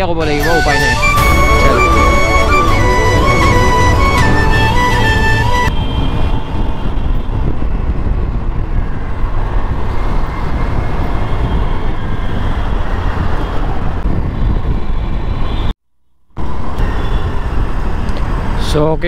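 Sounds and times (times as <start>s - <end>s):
traffic rumble: 0.0s - 15.7s, 16.4s - 19.0s.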